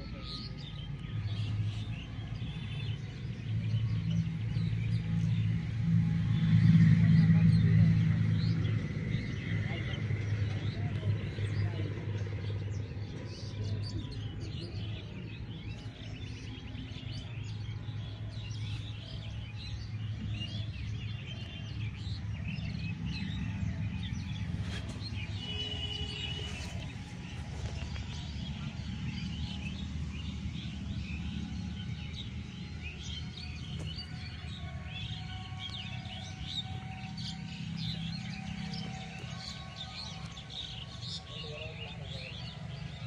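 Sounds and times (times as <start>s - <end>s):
small birds chirping: 0.0s - 43.0s
steady low drone: 0.0s - 43.0s.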